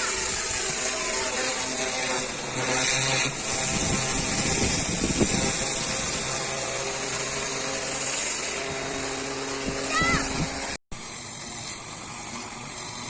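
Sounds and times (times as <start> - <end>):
pressure washer motor hum: 0.0 - 13.0.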